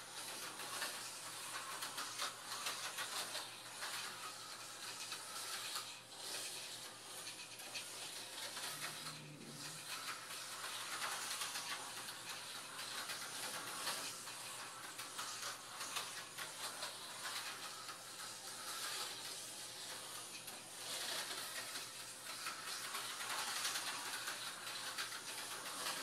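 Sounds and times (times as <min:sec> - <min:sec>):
slot car running on track: 0:00.0 - 0:26.0.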